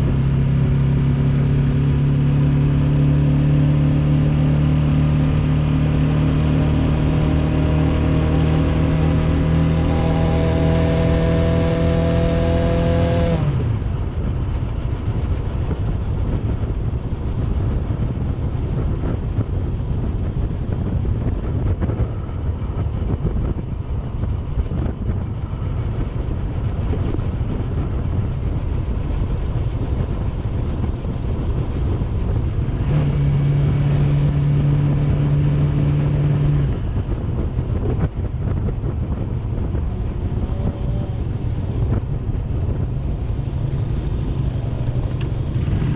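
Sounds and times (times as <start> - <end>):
motorcycle engine and road noise: 0.0 - 45.9
wind rushing over microphone: 0.0 - 45.9.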